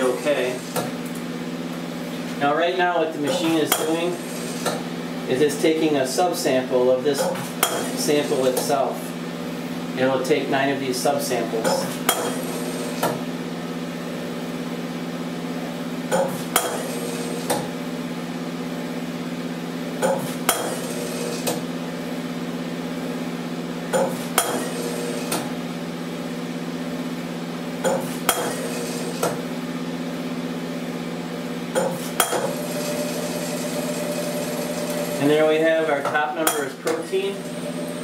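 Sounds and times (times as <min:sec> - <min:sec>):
machine humming: 0:00.0 - 0:38.0.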